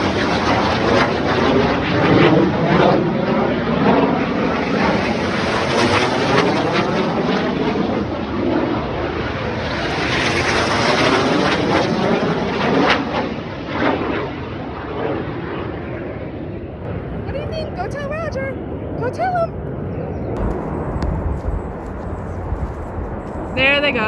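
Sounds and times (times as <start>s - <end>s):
jets flying over: 0.0s - 24.0s.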